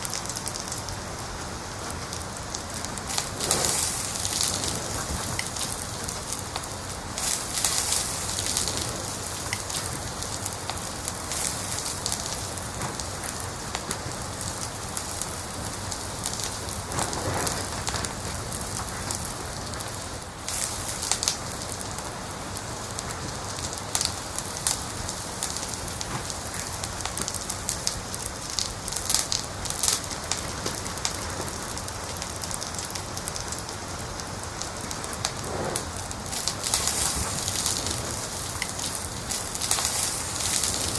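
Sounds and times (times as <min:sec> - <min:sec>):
fire pops and snaps: 0:00.0 - 0:01.0, 0:01.7 - 0:40.9
wood fire crackling: 0:00.0 - 0:40.9.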